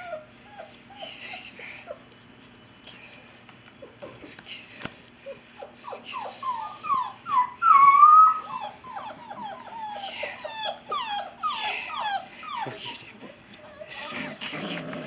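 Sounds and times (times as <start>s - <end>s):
puppies whining: 0.0s - 2.8s, 3.6s - 4.4s, 5.2s - 15.0s.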